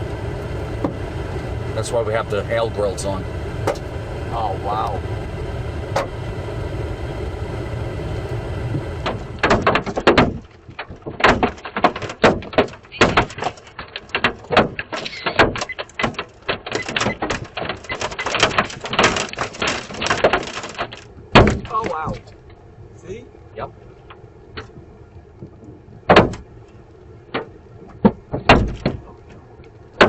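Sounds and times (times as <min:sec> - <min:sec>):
hailstones striking vehicle: 0:00.0 - 0:22.6, 0:24.0 - 0:30.0
vehicle road and engine noise: 0:00.0 - 0:30.0.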